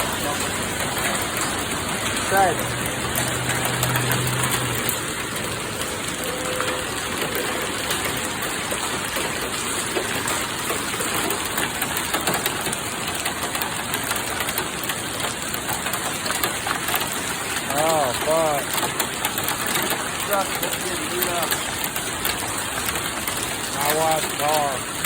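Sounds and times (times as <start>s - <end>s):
heavy rain: 0.0s - 25.0s
wind: 0.0s - 25.0s.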